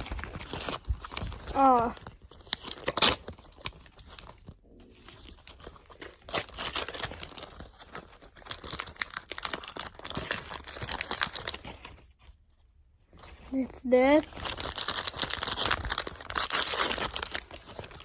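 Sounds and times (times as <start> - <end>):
plastic packaging crinkling and tearing: 0.0 - 12.4, 13.2 - 18.0.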